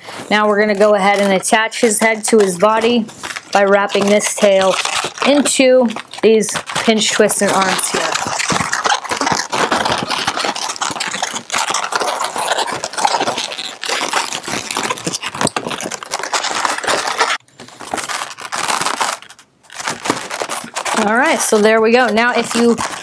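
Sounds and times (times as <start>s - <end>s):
balloons rubbing and twisting: 0.0s - 23.0s.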